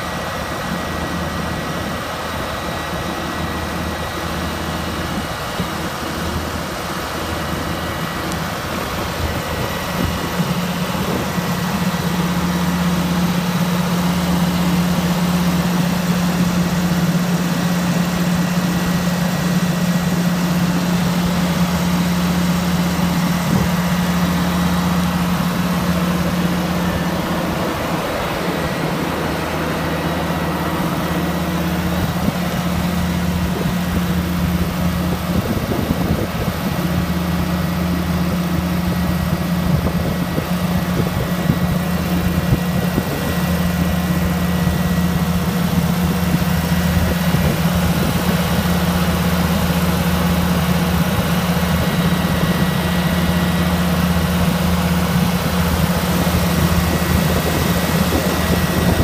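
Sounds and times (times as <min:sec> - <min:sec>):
gas compressor low drone: 0:00.0 - 0:59.0.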